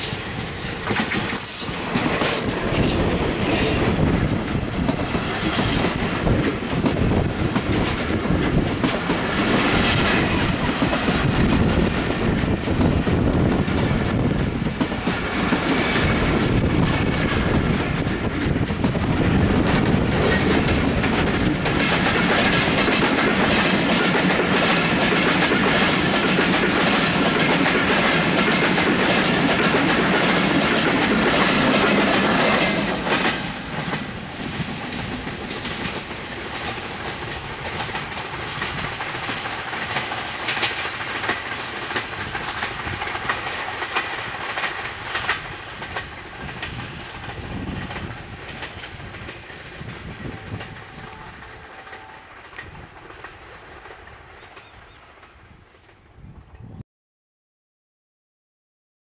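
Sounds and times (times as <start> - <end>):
train wheels clacking over rail joints: 0.0 - 56.0.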